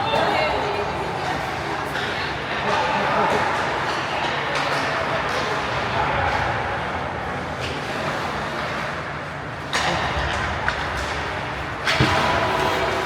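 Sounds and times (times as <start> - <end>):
murmur of arena crowd: 0.0 - 13.0.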